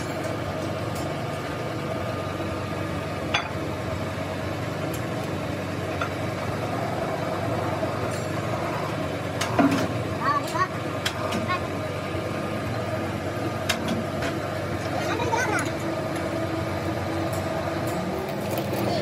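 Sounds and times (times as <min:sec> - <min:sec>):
machine motor hum: 0:00.0 - 0:19.0.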